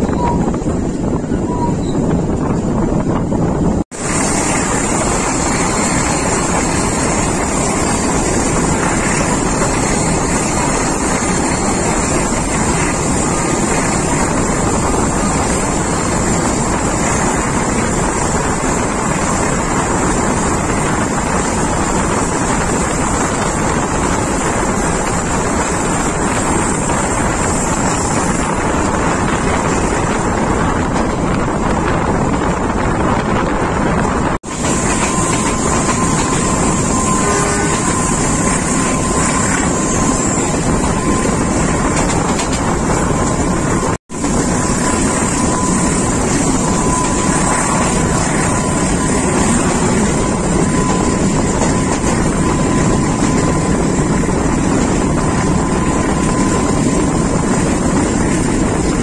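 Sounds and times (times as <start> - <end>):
train rumbling: 0.0 - 59.0
wind on microphone: 0.0 - 59.0.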